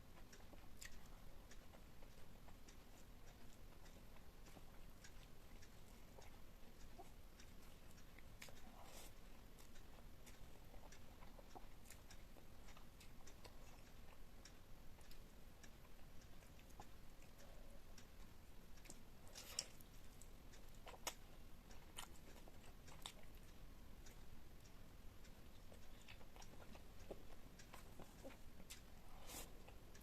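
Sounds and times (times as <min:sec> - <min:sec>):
quiet chewing: 0:00.0 - 0:30.0.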